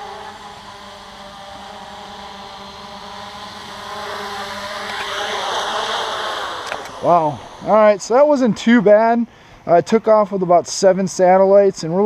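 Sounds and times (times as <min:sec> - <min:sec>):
drone propellers buzzing: 0:00.0 - 0:10.6.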